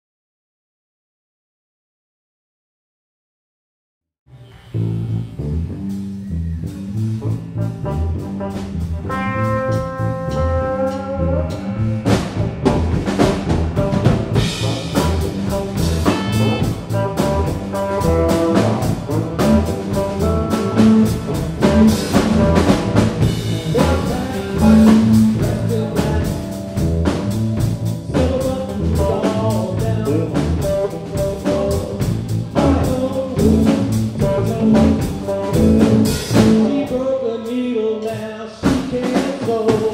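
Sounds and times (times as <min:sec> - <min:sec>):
electric bass: 0:04.3 - 0:37.4
drum kit: 0:04.4 - 0:39.9
electric guitars: 0:04.5 - 0:37.4.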